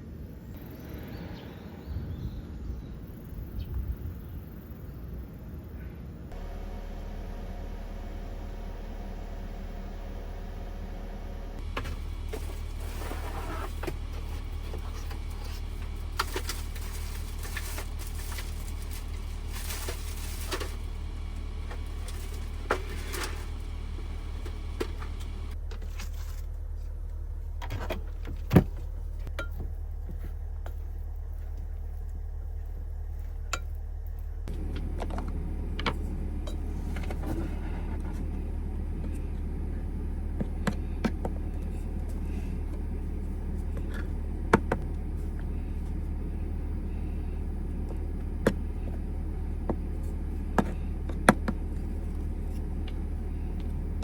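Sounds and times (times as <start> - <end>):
steady low hum: 3.1 - 54.0.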